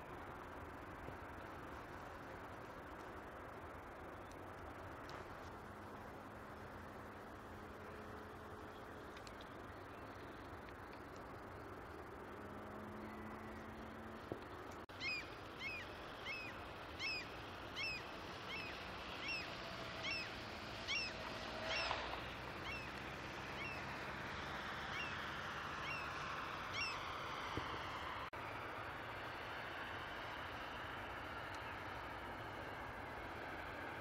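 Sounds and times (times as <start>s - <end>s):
steady outdoor hiss: 0.0s - 34.0s.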